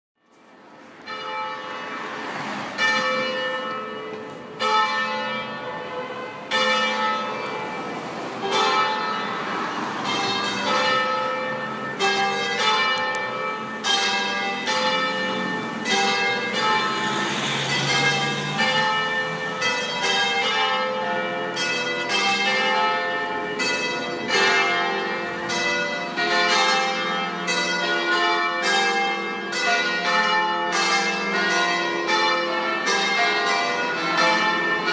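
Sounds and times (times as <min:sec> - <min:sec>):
church bells ringing: 0:00.8 - 0:34.9.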